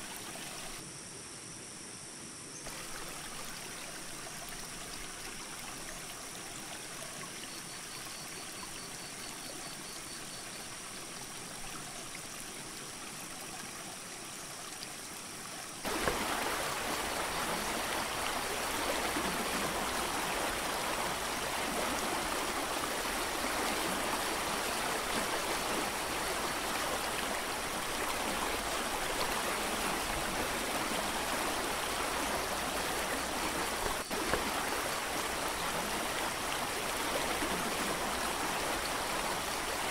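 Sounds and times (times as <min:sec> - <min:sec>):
creek water rushing: 0:00.0 - 0:00.8, 0:02.7 - 0:07.9, 0:10.6 - 0:39.9.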